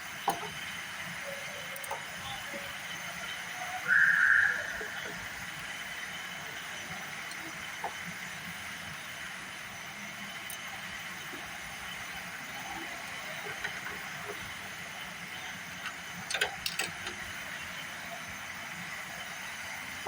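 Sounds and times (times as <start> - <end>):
steady hissing noise: 0.0 - 20.0.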